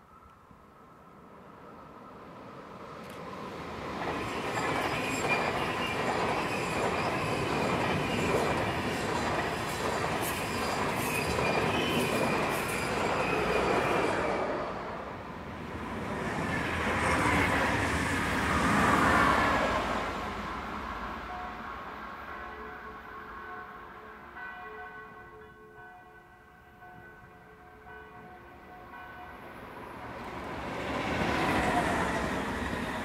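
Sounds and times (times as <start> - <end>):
train passing at speed: 0.0 - 25.2, 28.2 - 33.0
high train whine: 0.0 - 33.0.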